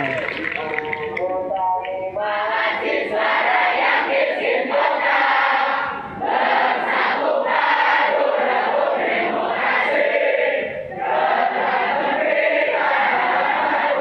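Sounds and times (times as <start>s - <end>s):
students chanting in unison: 2.2s - 14.0s.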